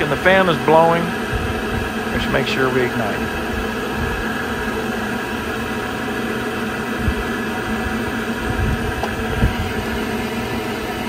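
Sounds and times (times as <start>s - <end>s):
blower fan whirring hum: 0.0s - 11.0s.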